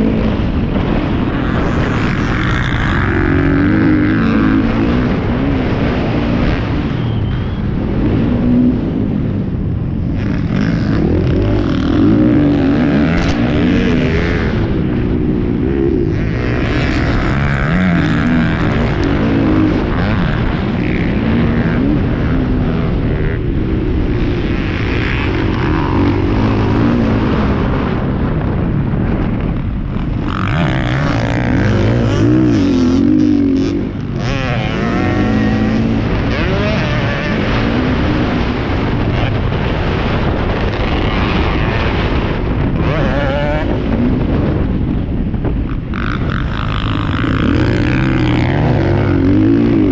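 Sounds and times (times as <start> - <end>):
motocross bikes racing: 0.0 - 49.9.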